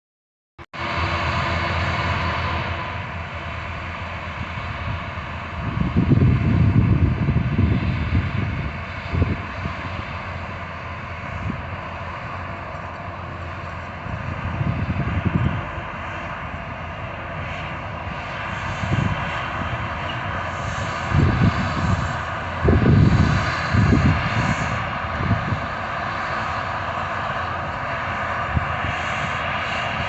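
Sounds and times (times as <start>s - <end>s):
harvest machinery running: 0.8s - 30.0s
low rumbles: 0.8s - 30.0s.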